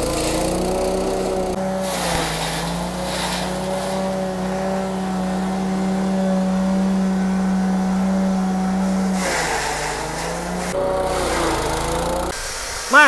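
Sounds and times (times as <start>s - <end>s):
blades chopping stalks: 0.0s - 12.4s
stationary engine running: 0.0s - 12.4s.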